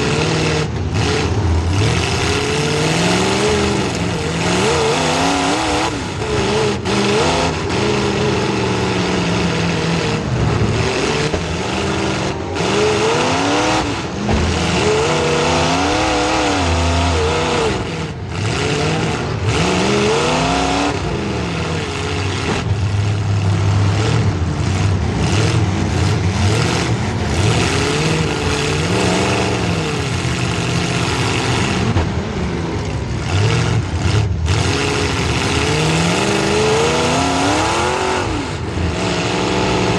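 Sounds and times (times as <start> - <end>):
car engine revving hard: 0.0 - 39.9.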